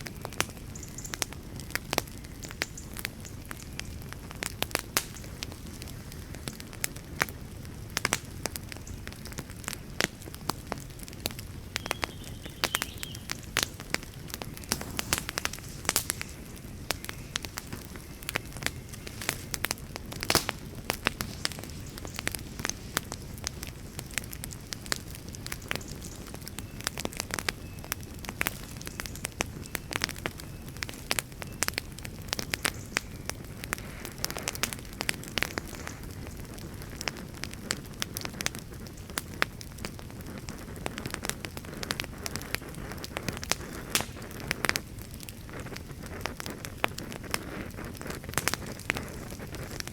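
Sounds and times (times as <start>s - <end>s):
low rumble of flames: 0.0s - 49.9s
wood fire pops and snaps: 0.1s - 49.9s.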